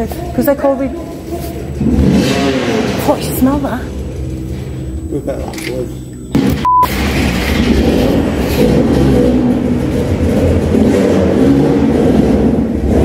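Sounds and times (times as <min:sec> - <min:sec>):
motorbike engines running: 0:00.0 - 0:13.0.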